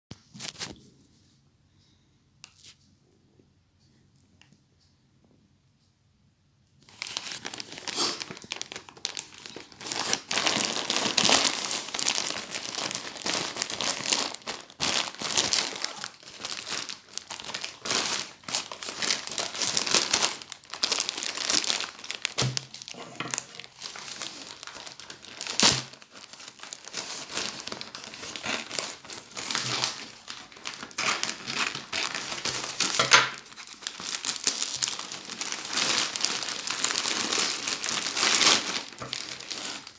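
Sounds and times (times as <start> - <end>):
plastic bag crinkling: 6.8 - 39.9.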